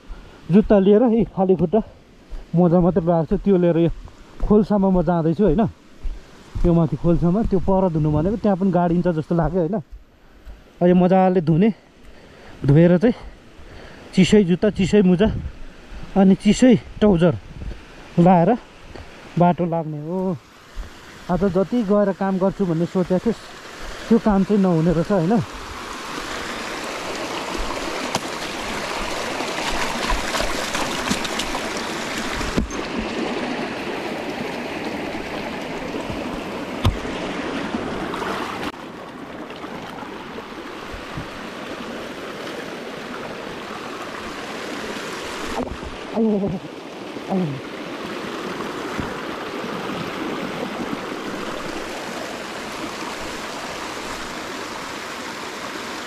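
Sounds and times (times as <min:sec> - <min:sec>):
stream water rushing over rocks: 0:00.0 - 0:56.0.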